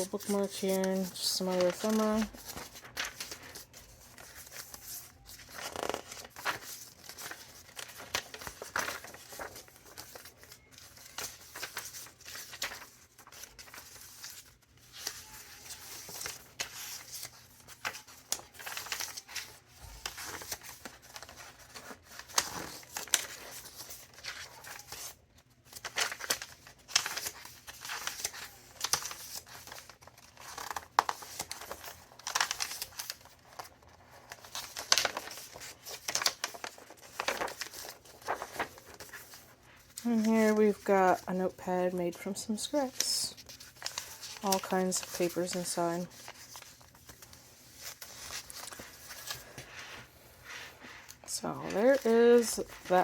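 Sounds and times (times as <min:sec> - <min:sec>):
paper pages turning and rustling: 0:00.0 - 0:53.0.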